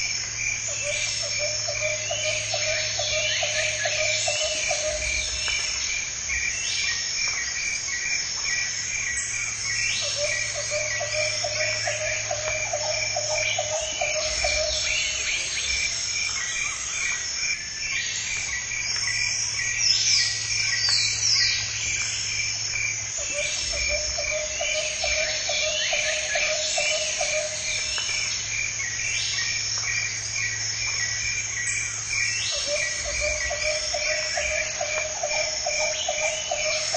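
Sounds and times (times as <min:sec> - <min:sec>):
dense insect buzz: 0:00.0 - 0:36.9.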